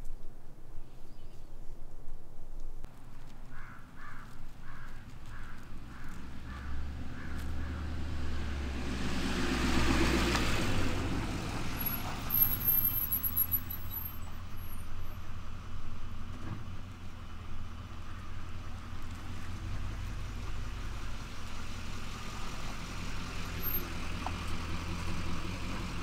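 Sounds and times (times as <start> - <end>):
road vehicle passing by: 4.5 - 26.0.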